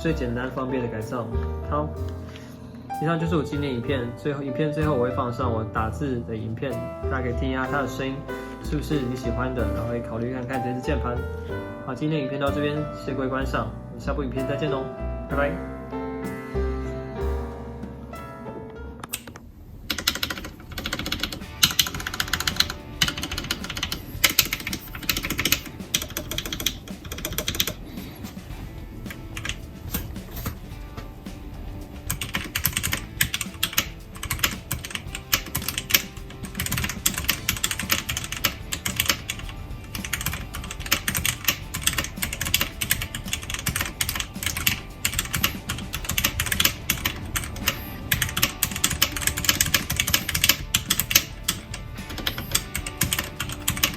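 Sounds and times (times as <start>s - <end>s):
background music: 0.0s - 53.9s.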